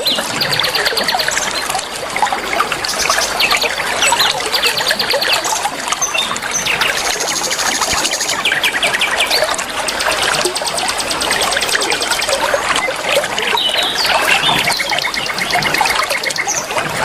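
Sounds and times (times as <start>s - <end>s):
running water trickling: 0.0s - 17.0s
songbirds chirping and trilling: 0.0s - 17.0s.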